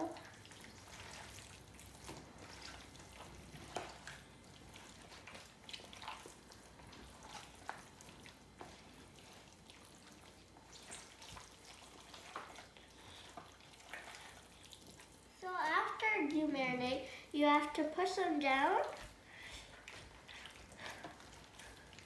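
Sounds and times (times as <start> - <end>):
wet squishing of raw meat: 0.0 - 16.0, 18.8 - 22.0.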